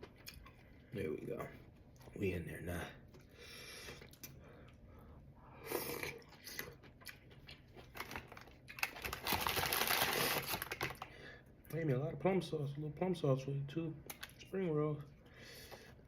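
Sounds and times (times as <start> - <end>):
chewing and crunching food: 0.0 - 11.9, 14.0 - 16.0.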